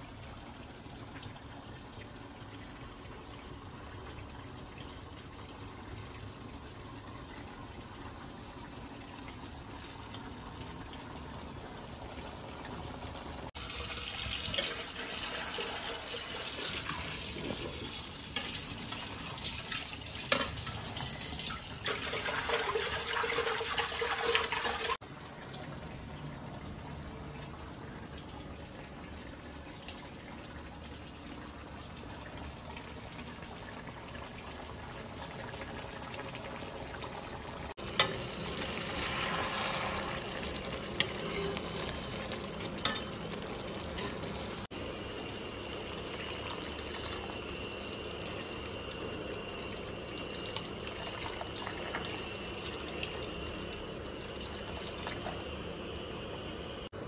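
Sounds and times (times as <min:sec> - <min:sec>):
curry bubbling and sizzling: 0:00.0 - 0:56.7.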